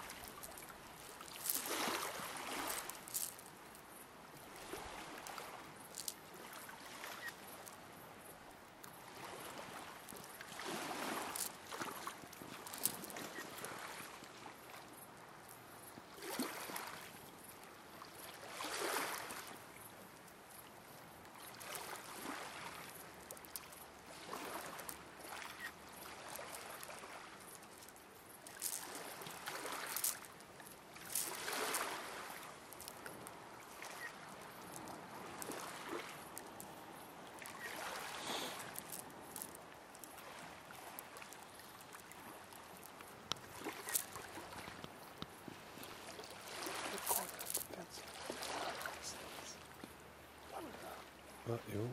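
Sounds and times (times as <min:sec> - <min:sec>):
waves lapping on rocky shore: 0:00.0 - 0:51.9.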